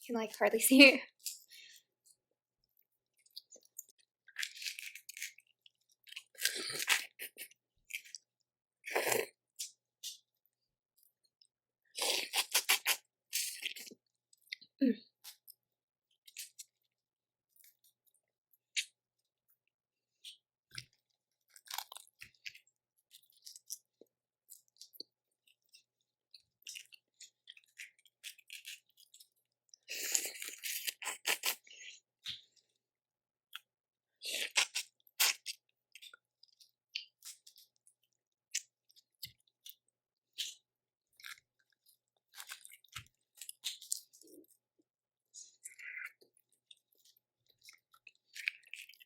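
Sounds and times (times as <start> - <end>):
wet chewing: 1.1 - 10.4, 11.9 - 15.6, 20.2 - 32.8, 33.5 - 49.0.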